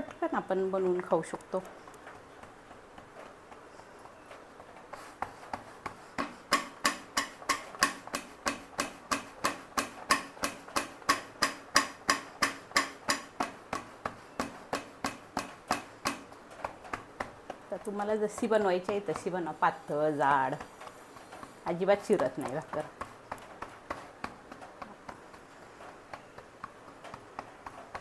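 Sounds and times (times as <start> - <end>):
dough patted by hand: 0.0 - 28.0.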